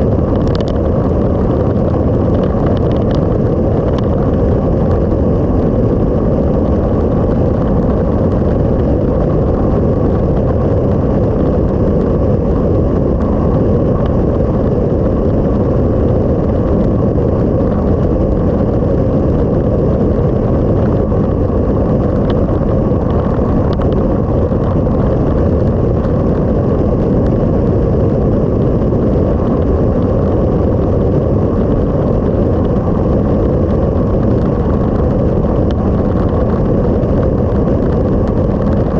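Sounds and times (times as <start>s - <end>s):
wind rumble: 0.0s - 38.9s.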